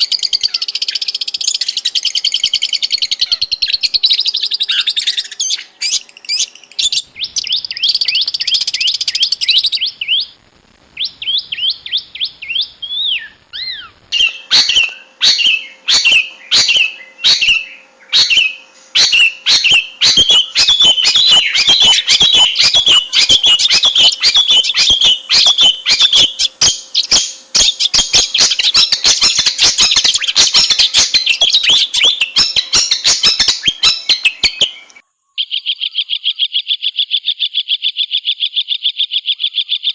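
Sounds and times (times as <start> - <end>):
shrike singing: 0.0 - 36.8.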